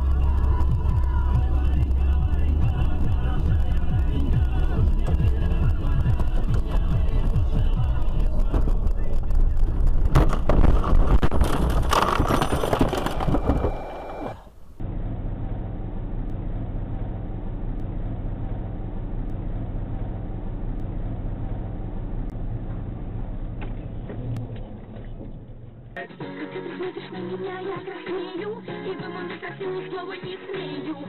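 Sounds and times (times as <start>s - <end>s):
car engine: 0.0s - 26.0s
road noise: 0.0s - 26.2s.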